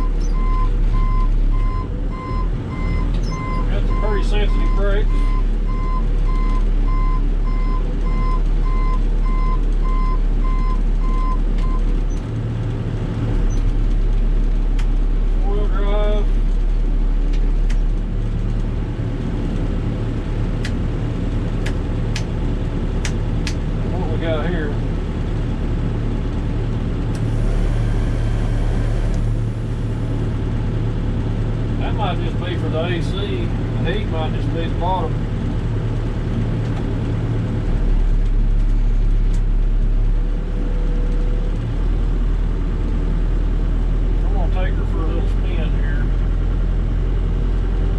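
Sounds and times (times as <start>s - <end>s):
backhoe diesel engine running: 0.0s - 15.4s, 16.0s - 47.9s.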